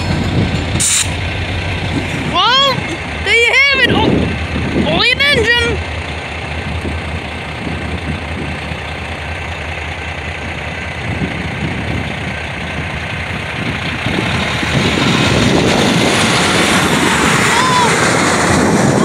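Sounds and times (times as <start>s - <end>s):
low engine rumble: 0.0s - 19.0s
road traffic noise: 0.0s - 19.0s.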